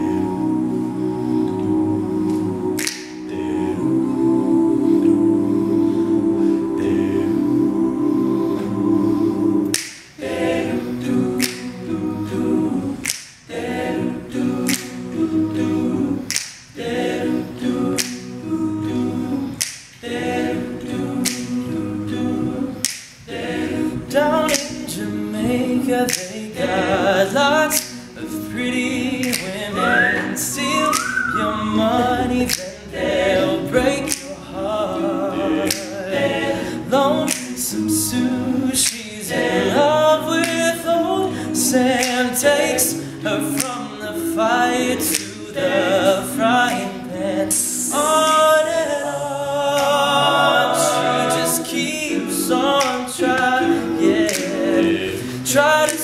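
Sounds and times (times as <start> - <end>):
male group singing in harmony: 0.0 - 56.0
sharp clicks keeping a beat: 0.4 - 35.0, 35.6 - 44.4, 45.0 - 45.6, 49.7 - 56.0.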